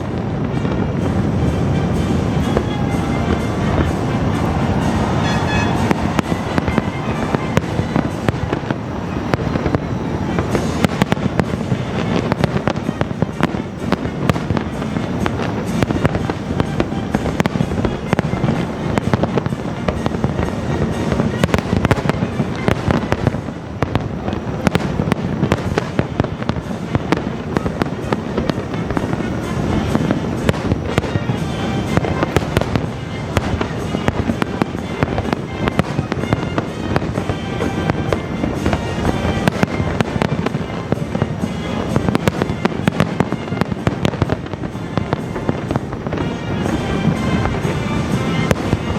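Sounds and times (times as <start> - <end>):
fireworks booming and crackling: 0.0 - 48.9
orchestral music: 0.0 - 48.9.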